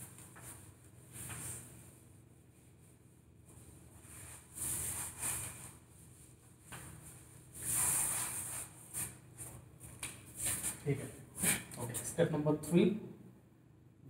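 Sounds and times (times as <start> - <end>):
duster wiping a whiteboard: 0.0 - 12.2.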